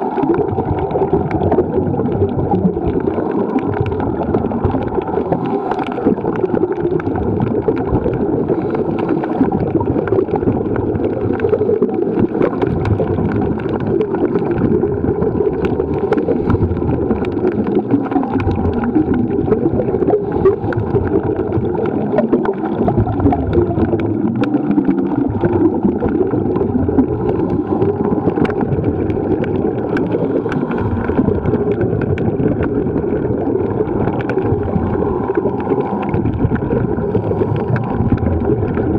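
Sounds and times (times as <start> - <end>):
water rushing underwater: 0.0 - 38.9.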